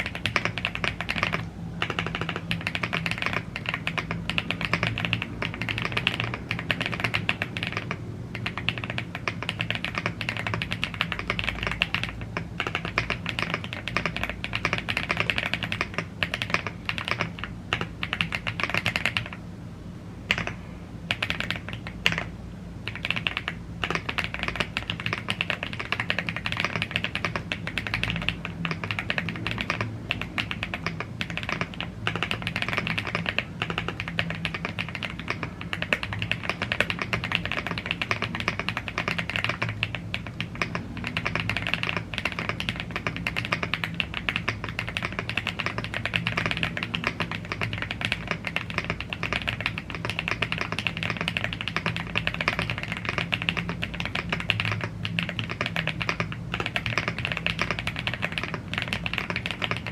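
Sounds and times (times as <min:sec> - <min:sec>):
fast mechanical keyboard typing: 0:00.0 - 0:19.4, 0:20.2 - 0:59.9.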